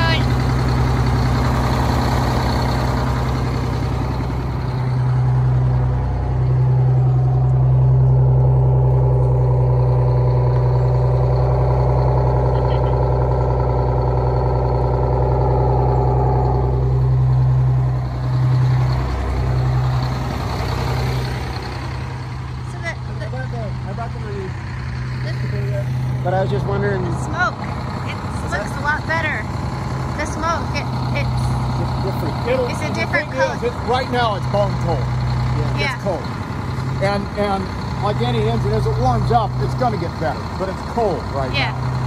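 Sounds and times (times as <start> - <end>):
diesel bus engine idling: 0.0 - 42.0.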